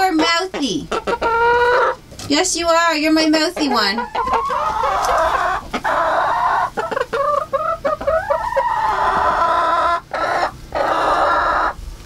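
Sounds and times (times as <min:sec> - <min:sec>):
hens clucking and squawking: 0:00.0 - 0:12.0.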